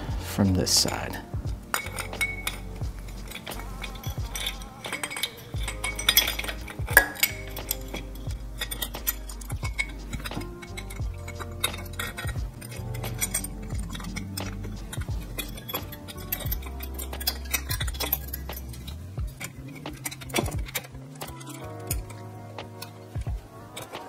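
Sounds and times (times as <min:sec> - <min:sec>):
background music: 0:00.0 - 0:24.0
metallic clinks and taps: 0:01.7 - 0:24.0.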